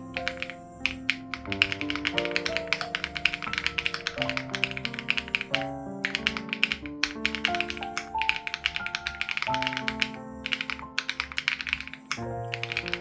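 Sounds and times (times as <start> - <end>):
mechanical keyboard typing: 0.0 - 13.0
soft background music: 0.0 - 13.0.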